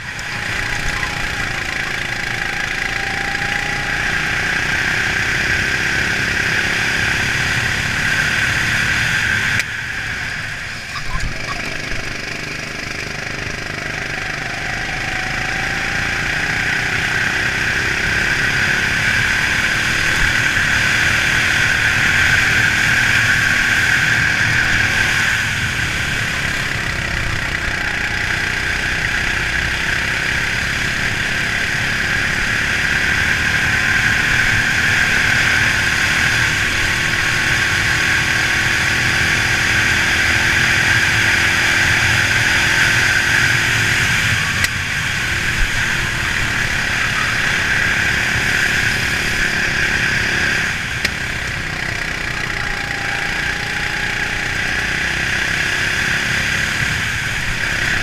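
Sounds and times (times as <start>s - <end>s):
racing kart engine: 0.0s - 58.0s.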